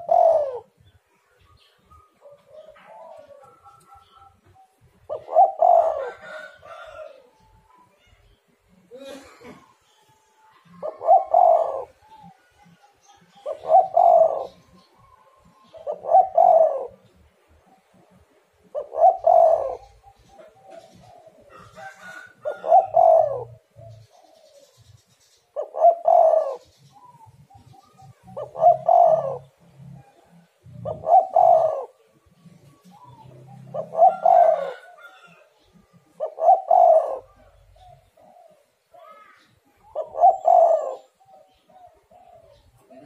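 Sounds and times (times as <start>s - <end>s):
dove cooing: 0.0s - 43.0s.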